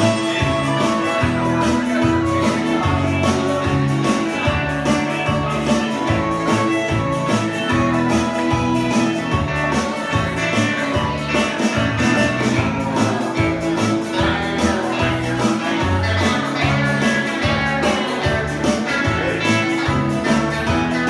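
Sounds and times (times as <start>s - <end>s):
country music with guitar: 0.0s - 21.0s.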